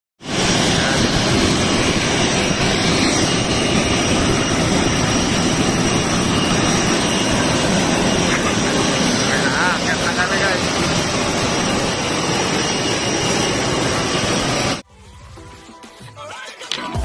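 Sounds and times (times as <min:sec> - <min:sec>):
jet engine roaring: 0:00.2 - 0:14.8.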